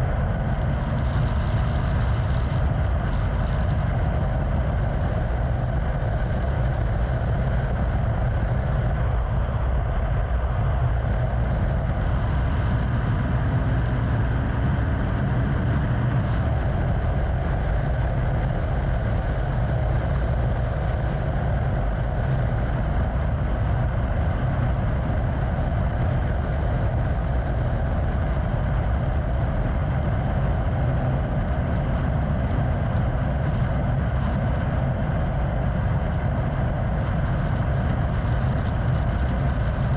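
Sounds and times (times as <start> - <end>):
vehicle engine drone: 0.0 - 39.9
wind noise: 0.0 - 39.9.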